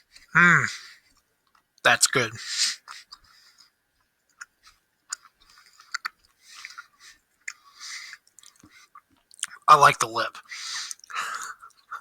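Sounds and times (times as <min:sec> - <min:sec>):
person chewing candy: 0:00.0 - 0:01.8, 0:02.8 - 0:09.7, 0:10.7 - 0:12.0.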